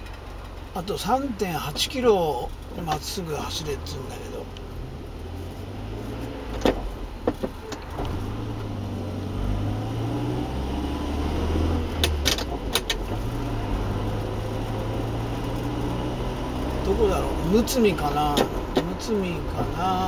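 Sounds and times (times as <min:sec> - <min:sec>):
car cabin engine and road hum: 0:00.0 - 0:20.0.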